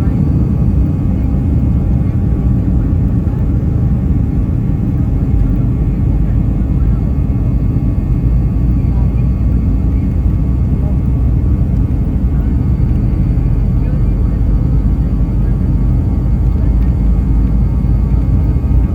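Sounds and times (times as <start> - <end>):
jet engines running: 0.0 - 18.9.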